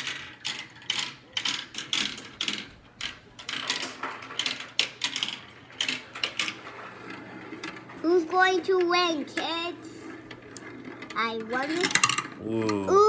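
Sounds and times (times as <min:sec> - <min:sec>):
marbles clattering down a track: 0:00.0 - 0:13.0.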